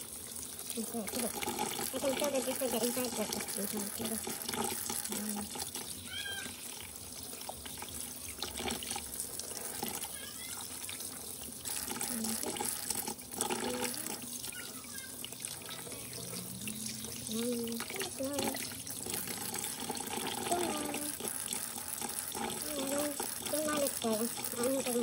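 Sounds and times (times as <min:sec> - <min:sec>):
tap water running into sink: 0:00.0 - 0:25.0.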